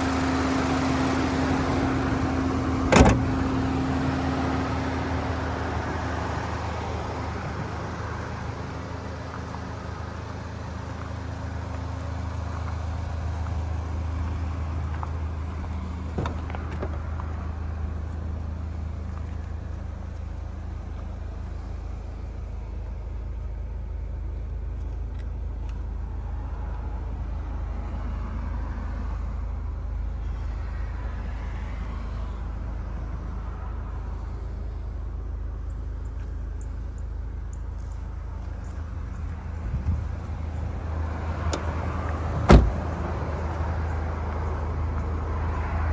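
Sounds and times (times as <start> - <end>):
car engine idling: 0.0 - 27.7, 32.4 - 45.3.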